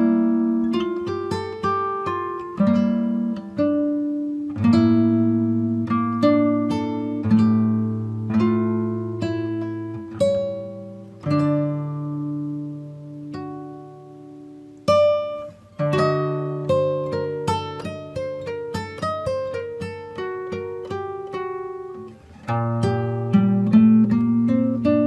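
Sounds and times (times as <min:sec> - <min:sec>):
acoustic guitar plucking: 0:00.0 - 0:25.0.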